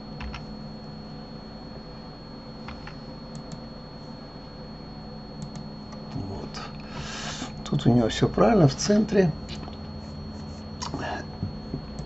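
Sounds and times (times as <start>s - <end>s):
low electrical hum: 0.0s - 12.0s
thin high whine: 0.0s - 12.0s.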